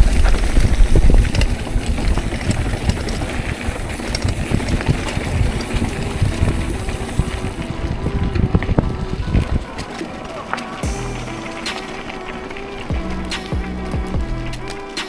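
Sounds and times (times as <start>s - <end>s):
tyres and frame rattling: 0.0s - 15.0s
wind buffeting microphone: 0.0s - 15.0s.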